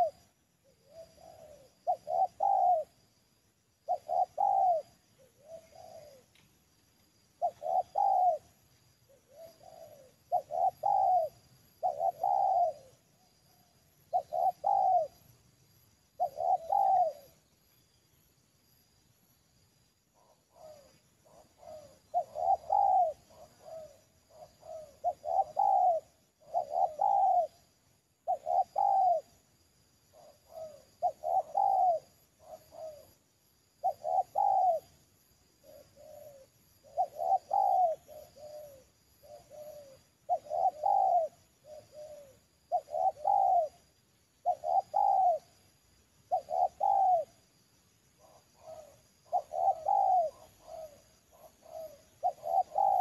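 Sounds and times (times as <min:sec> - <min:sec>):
dove cooing: 0:00.0 - 0:03.0, 0:03.8 - 0:06.4, 0:07.4 - 0:15.4, 0:16.2 - 0:17.5, 0:20.2 - 0:33.2, 0:33.8 - 0:47.5, 0:48.1 - 0:53.0.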